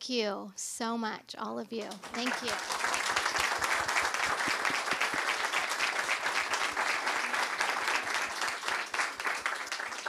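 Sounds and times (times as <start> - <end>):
audience applauding: 1.9 - 10.0.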